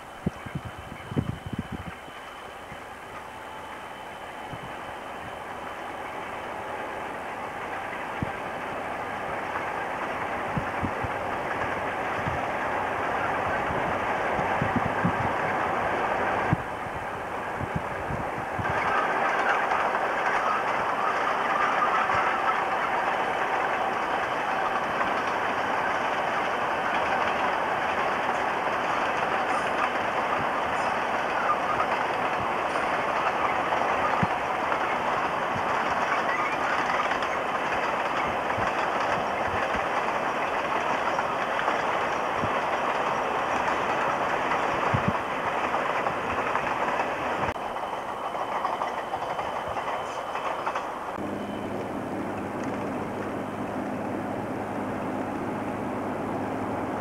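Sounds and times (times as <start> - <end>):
train wheel and rail noise: 0.0 - 57.0.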